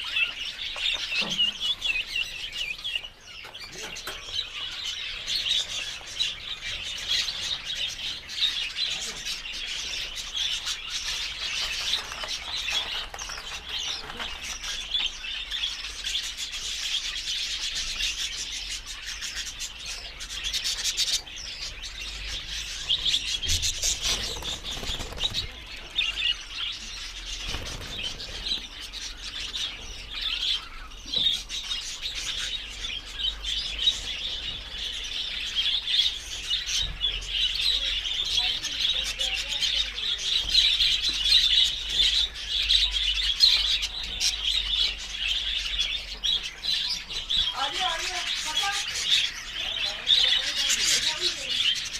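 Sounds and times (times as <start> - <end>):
lovebirds chattering: 0.0 - 51.9.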